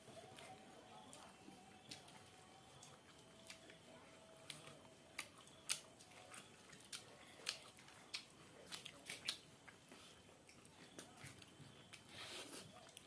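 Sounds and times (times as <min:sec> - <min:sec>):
person chewing with mouth smacks: 0:00.1 - 0:13.0.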